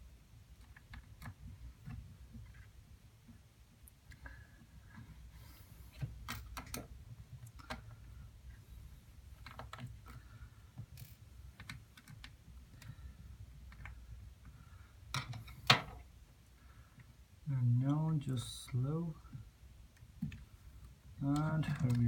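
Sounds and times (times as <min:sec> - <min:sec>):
hands and tool clicking on laptop: 0:00.4 - 0:05.3, 0:05.9 - 0:16.2, 0:19.3 - 0:22.0.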